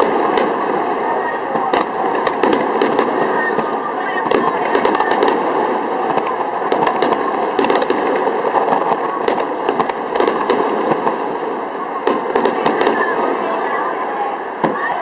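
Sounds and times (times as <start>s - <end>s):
continuous firework bursts: 0.0s - 15.0s
fireworks crackling pops: 0.0s - 15.0s.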